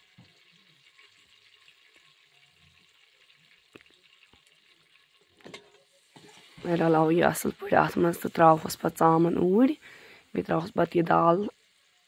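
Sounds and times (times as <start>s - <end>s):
spice sizzling in hot oil: 0.0s - 12.0s.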